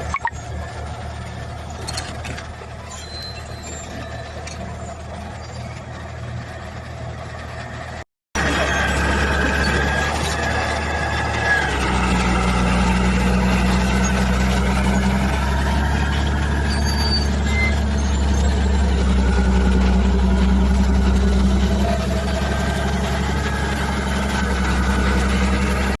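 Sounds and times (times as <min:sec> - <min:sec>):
heavy machine engine droning: 0:00.0 - 0:26.0.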